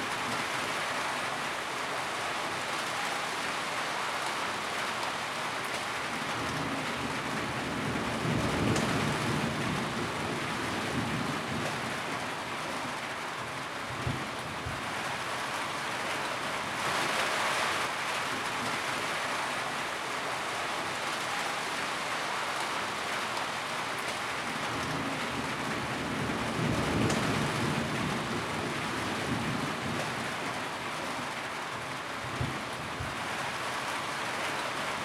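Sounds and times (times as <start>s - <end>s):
rain on a tin roof: 0.0s - 35.0s.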